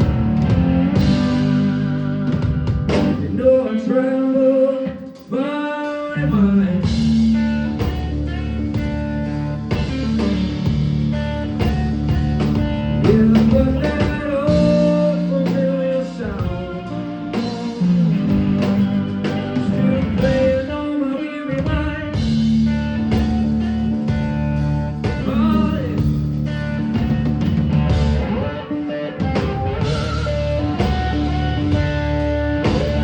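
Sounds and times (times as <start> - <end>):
lead guitar bending notes: 0.0 - 3.4, 6.6 - 20.8, 21.6 - 33.0
blues-rock band playing: 0.0 - 3.8, 4.9 - 33.0.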